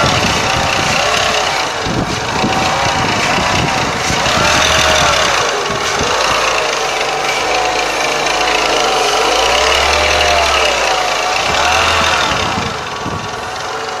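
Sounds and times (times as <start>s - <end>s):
car engine revving: 0.0s - 14.0s
metallic rattle from engine: 0.0s - 14.0s.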